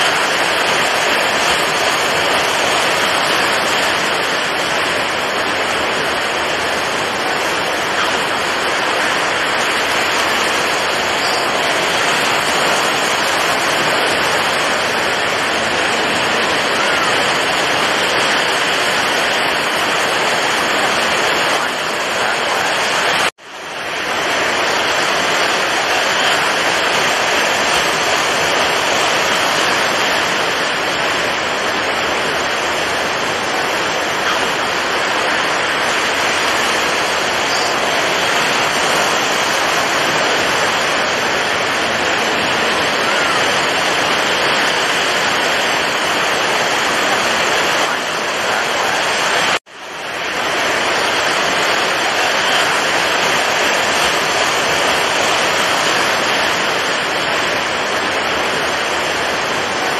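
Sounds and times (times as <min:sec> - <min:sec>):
rough sea water rushing: 0:00.0 - 0:59.9.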